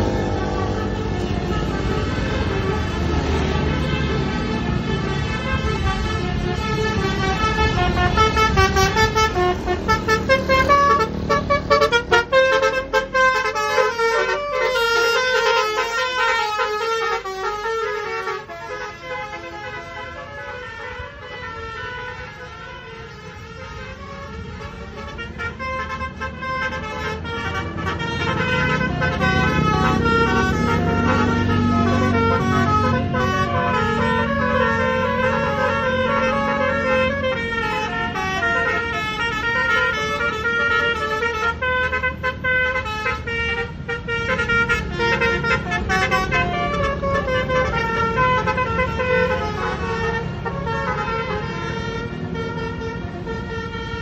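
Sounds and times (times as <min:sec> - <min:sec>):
bus engine running: 0:00.0 - 0:54.0
multi-tone horn playing a tune: 0:00.0 - 0:54.0.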